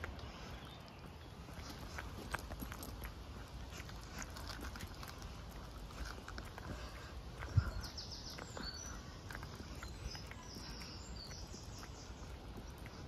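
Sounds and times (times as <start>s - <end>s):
footsteps on tarmac: 0.0s - 13.0s
songbirds singing: 0.0s - 13.0s.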